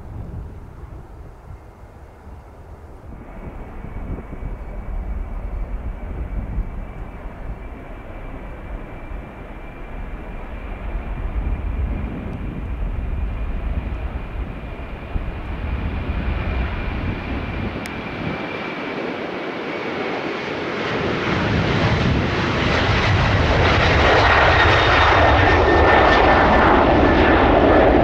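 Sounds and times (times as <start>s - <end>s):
jet engine high whine: 0.0s - 28.0s
jet engines rumbling: 0.0s - 28.0s.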